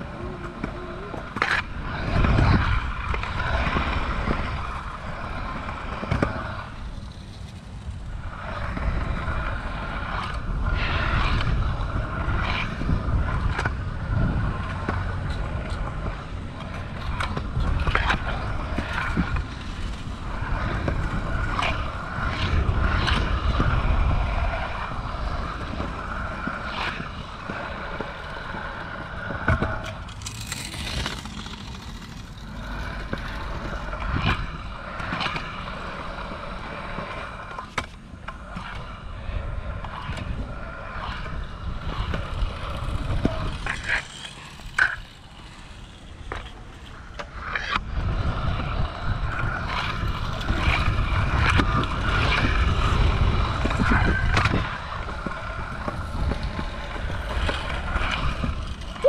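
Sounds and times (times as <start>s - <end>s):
wind buffeting microphone: 0.0s - 37.6s, 38.2s - 59.0s
scooter wheels rolling on concrete: 0.0s - 59.0s.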